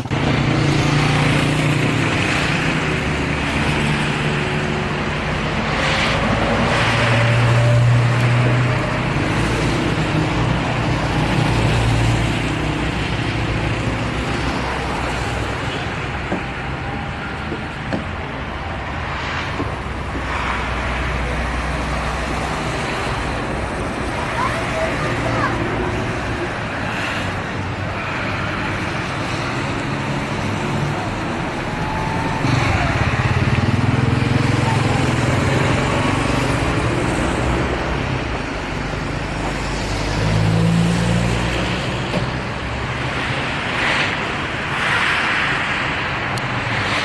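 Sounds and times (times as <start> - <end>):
car engines humming: 0.0 - 47.0
road noise: 0.0 - 47.0
vehicles passing by: 0.0 - 47.0.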